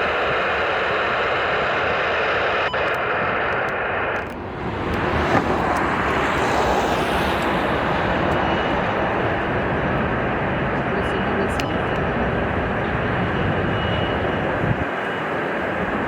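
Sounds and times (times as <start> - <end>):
jet engines on takeoff: 0.0 - 16.0.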